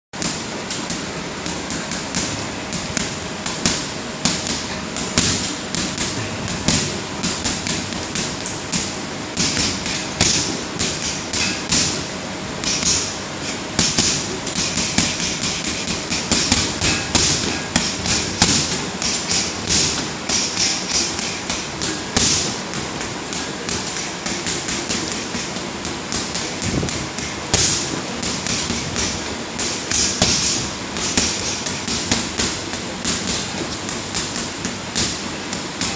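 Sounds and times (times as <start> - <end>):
boxing gloves punching ball: 0.2 - 13.2, 13.8 - 35.9
ball slapping on cord: 0.7 - 12.0, 12.6 - 35.9.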